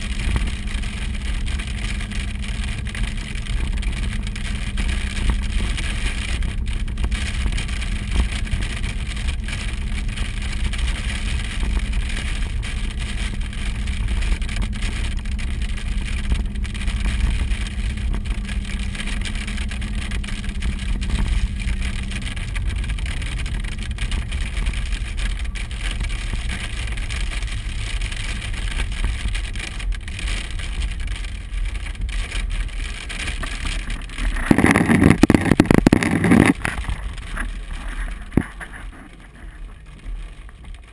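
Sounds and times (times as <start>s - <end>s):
engine and road rumble: 0.0s - 40.9s
hail and rain on a vehicle: 0.0s - 40.9s.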